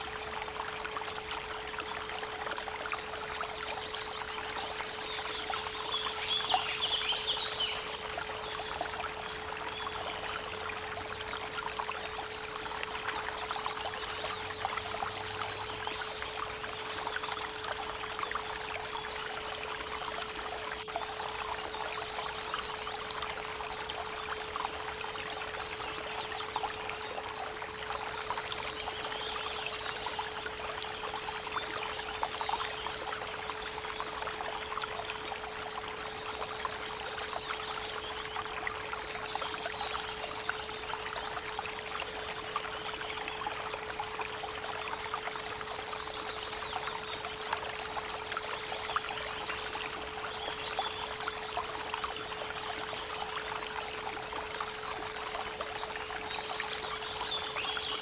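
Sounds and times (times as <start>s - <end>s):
creek water trickling: 0.0s - 58.0s.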